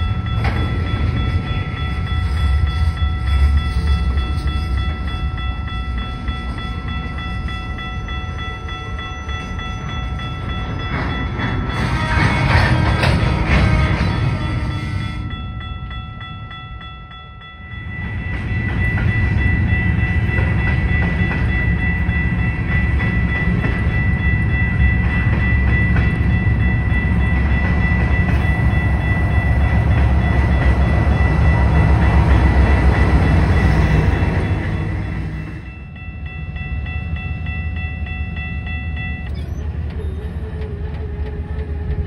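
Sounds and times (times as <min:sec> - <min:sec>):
diesel locomotive passing: 0:00.0 - 0:42.0
freight train wheels rumbling: 0:00.0 - 0:42.0.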